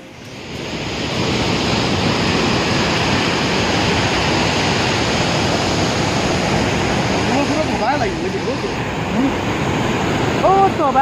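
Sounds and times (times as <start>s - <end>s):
waterfall and rapids rushing: 0.0s - 11.0s.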